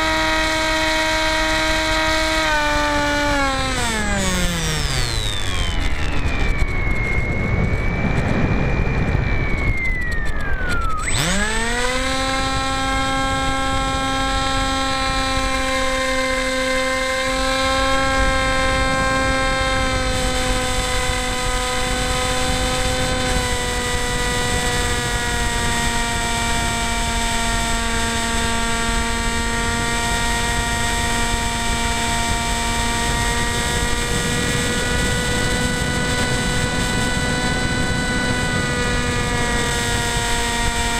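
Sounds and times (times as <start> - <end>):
model plane motor whine: 0.0 - 40.9.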